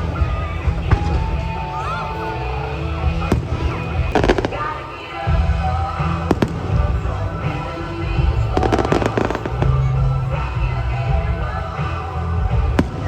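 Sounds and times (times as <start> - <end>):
fireworks bangs and cracks: 0.0 - 13.0
music with heavy bass: 0.0 - 13.0.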